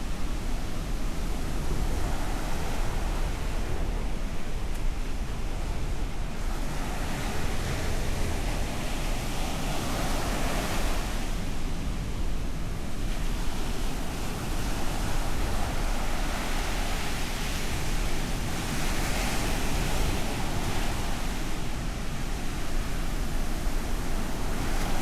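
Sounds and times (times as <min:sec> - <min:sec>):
waves breaking on a beach: 0:00.0 - 0:25.0.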